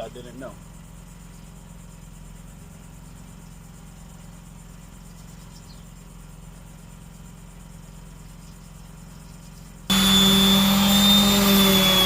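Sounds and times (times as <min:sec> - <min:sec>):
crickets chirring: 0:00.0 - 0:12.0
steady low hum: 0:00.0 - 0:12.0.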